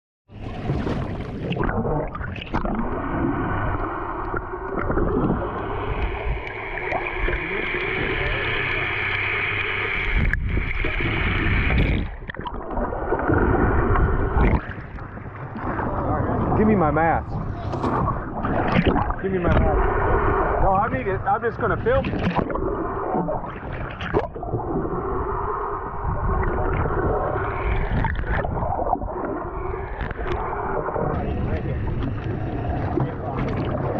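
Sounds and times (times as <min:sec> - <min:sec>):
low underwater hum: 0:00.3 - 0:33.9
water gurgling: 0:00.3 - 0:33.9.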